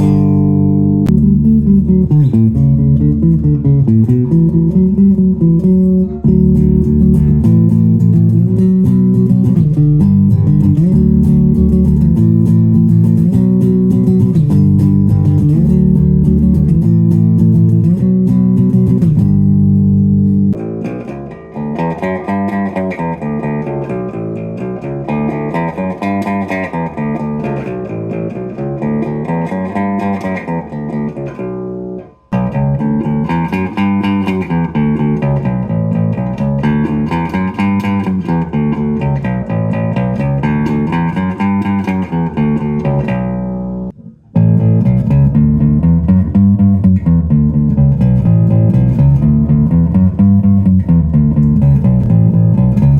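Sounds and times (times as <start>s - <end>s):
electric bass guitar: 0.0s - 52.9s.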